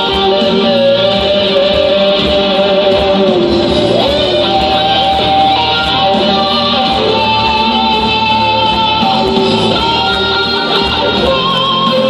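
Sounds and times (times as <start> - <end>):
bass: 0.0 - 12.0
drums: 0.0 - 12.0
lead electric guitar: 0.0 - 12.0.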